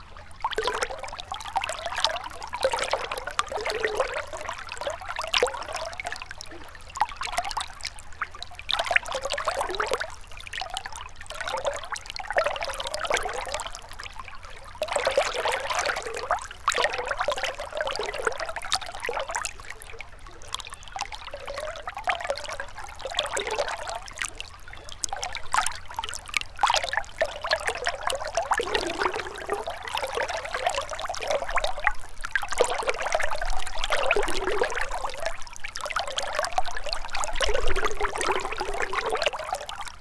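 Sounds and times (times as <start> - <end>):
stream burbling over stones: 0.0 - 40.0.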